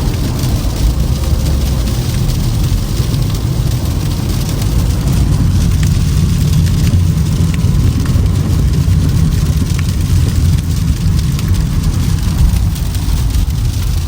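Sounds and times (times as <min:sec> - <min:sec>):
tyre and road rumble: 0:00.0 - 0:14.0.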